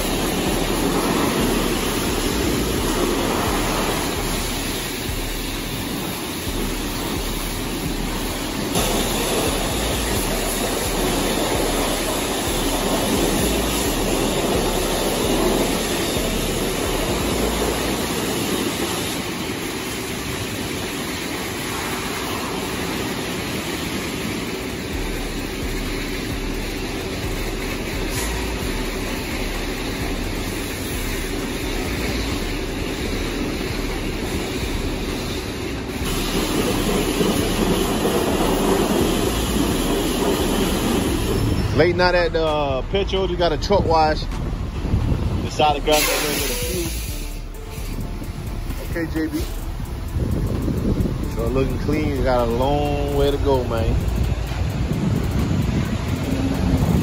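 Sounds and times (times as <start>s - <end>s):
machinery hum: 0.0s - 57.0s
pressure washer spraying water: 0.0s - 57.0s.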